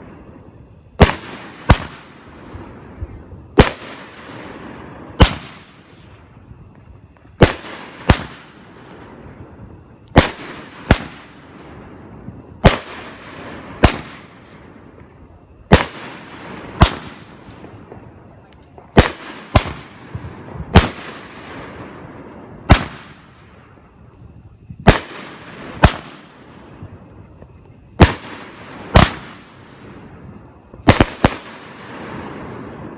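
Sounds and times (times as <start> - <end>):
fireworks bangs with echo: 1.0 - 32.9.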